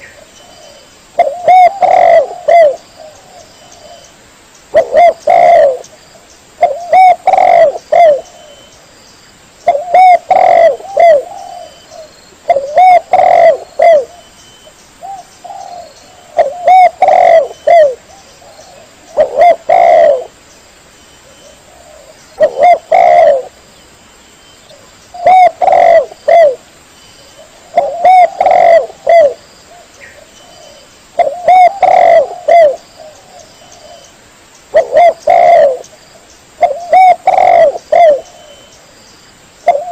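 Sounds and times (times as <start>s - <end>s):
dove cooing: 0.0s - 4.1s, 4.7s - 5.9s, 6.6s - 8.7s, 9.6s - 14.3s, 15.0s - 20.4s, 21.2s - 23.6s, 24.7s - 26.6s, 27.4s - 34.1s, 34.7s - 35.9s, 36.6s - 38.7s, 39.6s - 39.9s.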